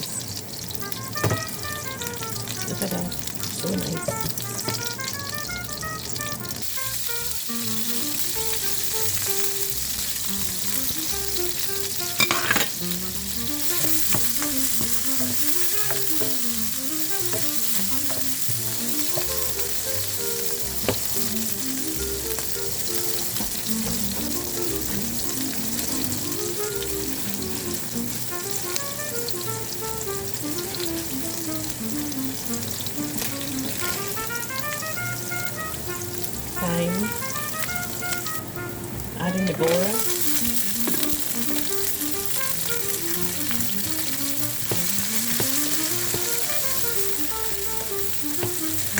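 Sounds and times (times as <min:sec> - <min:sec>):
food sizzling in a pan: 0:00.0 - 0:48.9
stirring in a pan: 0:00.0 - 0:48.9.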